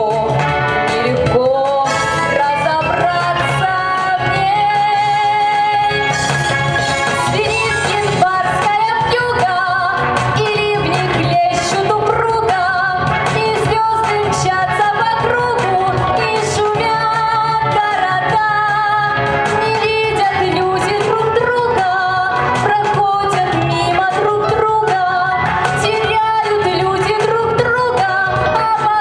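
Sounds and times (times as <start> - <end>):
woman singing into microphone: 0.0 - 6.3, 6.9 - 29.0
instrumental accompaniment: 0.0 - 29.0.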